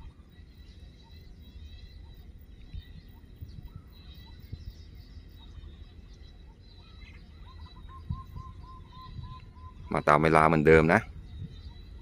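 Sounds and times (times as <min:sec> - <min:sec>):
birds chirping faintly: 0:00.0 - 0:12.0
rapid repeated bird chirps: 0:00.0 - 0:12.0.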